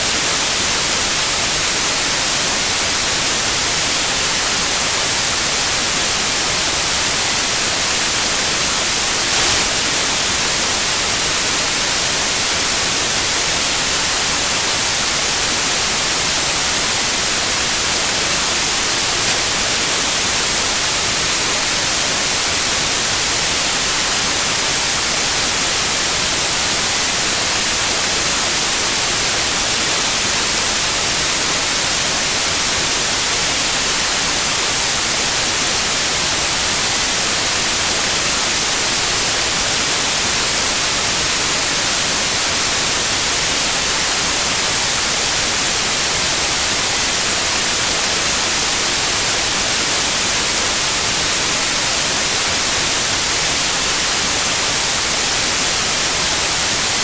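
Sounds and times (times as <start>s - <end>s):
very high-pitched steady tone: 0.0s - 57.0s
white noise hiss: 0.0s - 57.0s.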